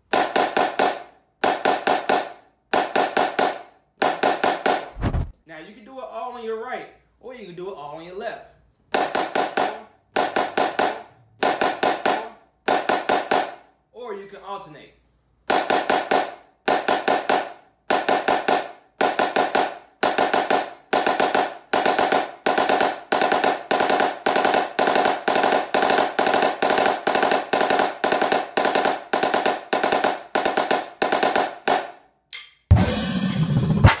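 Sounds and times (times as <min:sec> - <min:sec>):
snare drum strokes: 0:00.0 - 0:05.4, 0:08.9 - 0:13.6, 0:15.5 - 0:34.0.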